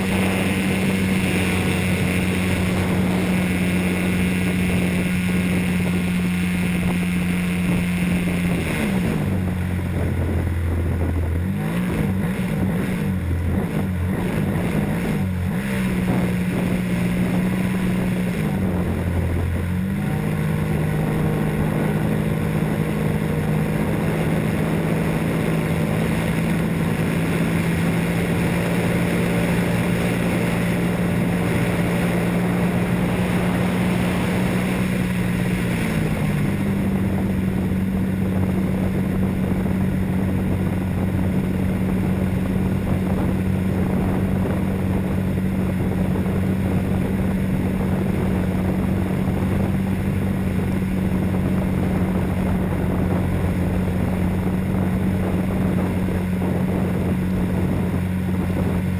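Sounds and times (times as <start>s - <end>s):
model airplane motor drone: 0.0s - 58.9s.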